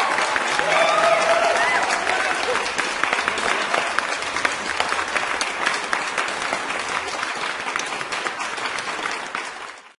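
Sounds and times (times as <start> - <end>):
applause: 0.0 - 10.0.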